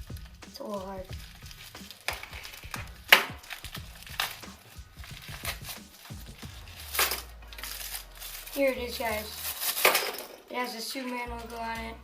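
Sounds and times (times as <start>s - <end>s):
packaging crinkling and scraping: 0.0s - 11.4s.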